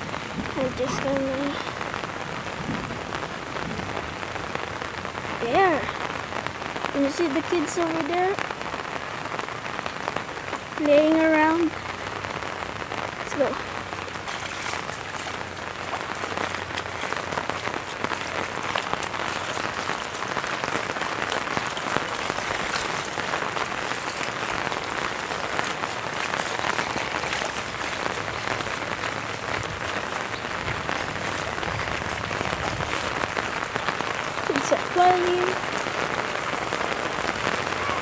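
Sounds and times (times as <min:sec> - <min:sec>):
heavy rain pattering: 0:00.0 - 0:38.0.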